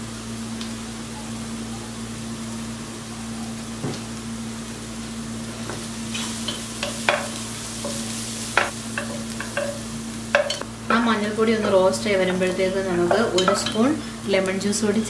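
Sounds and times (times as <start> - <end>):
constant low hum: 0.0 - 15.0
onions sizzling in oil: 0.0 - 15.0.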